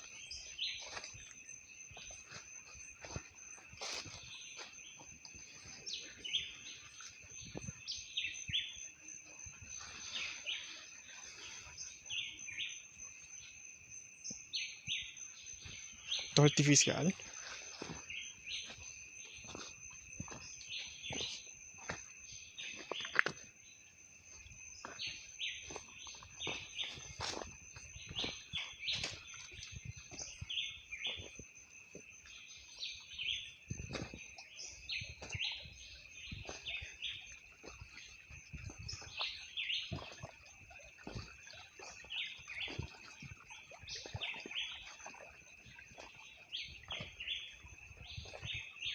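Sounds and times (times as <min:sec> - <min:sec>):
birds chirping: 0:00.0 - 0:13.6, 0:14.2 - 0:23.8, 0:24.6 - 0:48.9
insect drone: 0:00.0 - 0:48.9.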